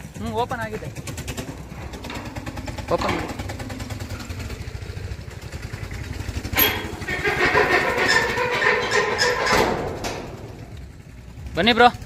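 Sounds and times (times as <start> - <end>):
metal gate scraping and rattling: 1.3 - 11.3.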